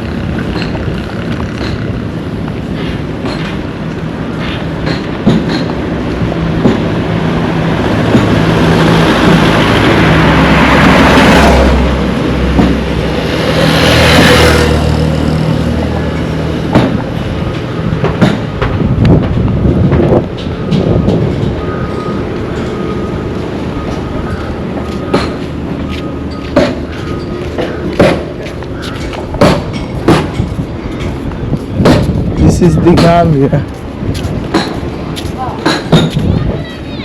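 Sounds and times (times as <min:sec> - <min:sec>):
vehicles passing close by: 0:00.0 - 0:37.0.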